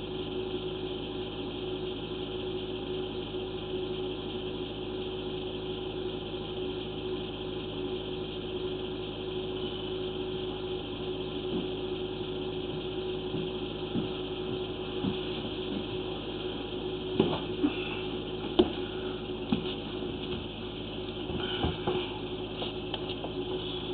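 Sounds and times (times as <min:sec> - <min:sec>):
machine hum with constant tone: 0:00.0 - 0:23.9.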